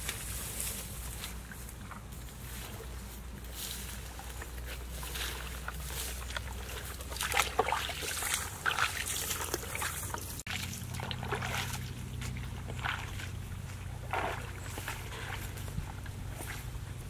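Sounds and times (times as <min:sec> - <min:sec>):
footsteps splashing through wet grass: 0:00.0 - 0:17.0
steady low hum: 0:00.0 - 0:17.0.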